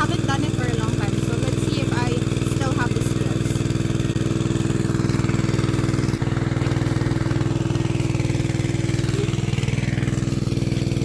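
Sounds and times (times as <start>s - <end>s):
small engine water pump running: 0.0s - 11.0s.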